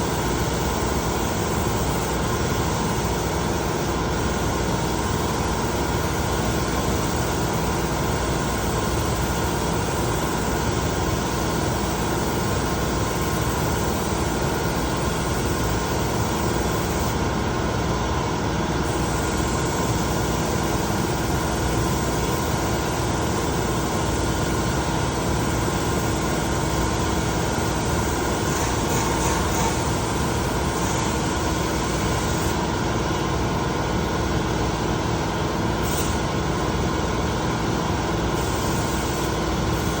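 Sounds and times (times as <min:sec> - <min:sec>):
machine hiss with low hum: 0:00.0 - 0:40.0.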